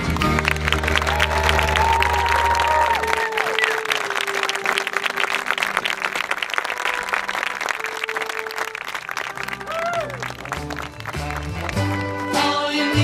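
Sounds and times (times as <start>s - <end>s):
crowd applauding: 0.0s - 12.4s.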